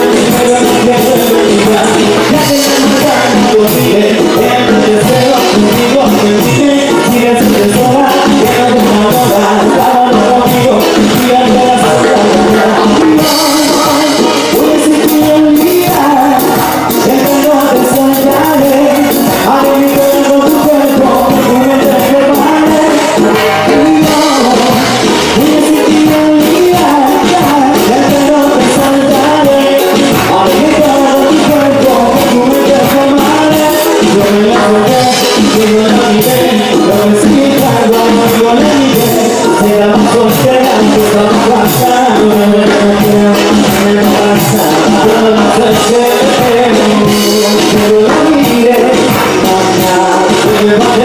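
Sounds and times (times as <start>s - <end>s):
live band playing latin music: 0.0s - 51.0s
man singing into a microphone: 0.0s - 51.0s.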